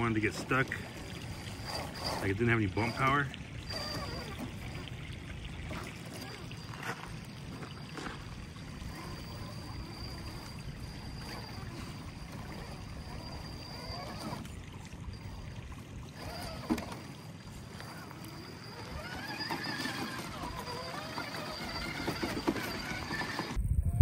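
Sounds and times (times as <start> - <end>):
rc car electric motor whine: 0.1 - 24.0.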